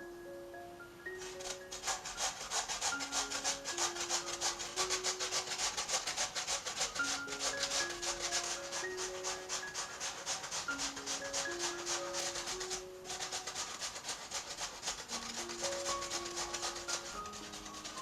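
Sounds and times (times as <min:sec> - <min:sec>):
potato grated on metal grater: 0:01.2 - 0:18.0.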